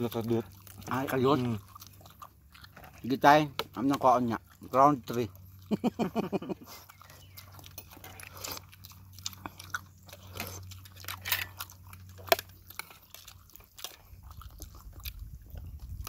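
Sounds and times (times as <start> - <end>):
people chewing chicken: 0.0 - 16.0.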